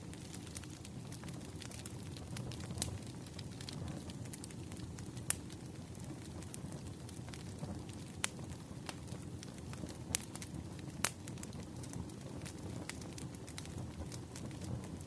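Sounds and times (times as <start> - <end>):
wood fire crackling: 0.0 - 15.0
sharp pops of burning wood: 0.1 - 15.0.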